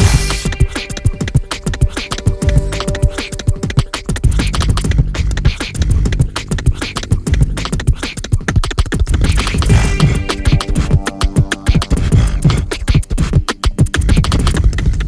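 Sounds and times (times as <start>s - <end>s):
heavy low bass: 0.0s - 8.0s, 9.0s - 13.4s
beatboxing into a microphone: 0.0s - 15.0s.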